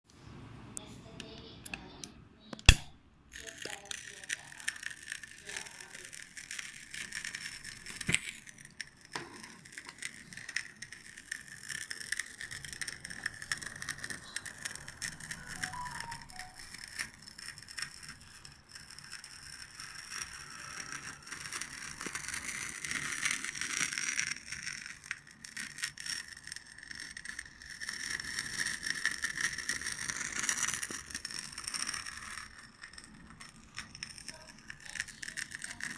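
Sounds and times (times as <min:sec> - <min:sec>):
candle crackling and sputtering: 0:02.7 - 0:35.9.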